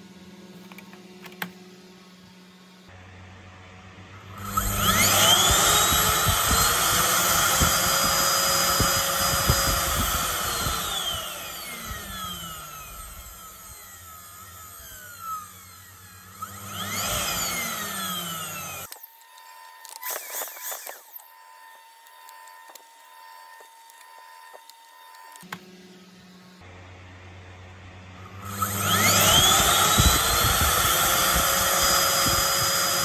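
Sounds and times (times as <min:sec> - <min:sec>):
vacuum cleaner motor whining: 0:00.0 - 0:33.0.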